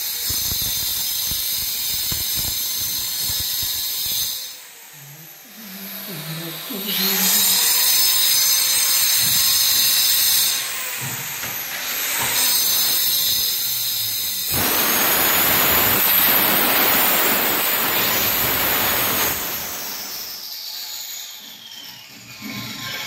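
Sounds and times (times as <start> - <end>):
circular saw motor whine: 0.0 - 23.0
saw blade cutting laminate sheet: 0.0 - 23.0.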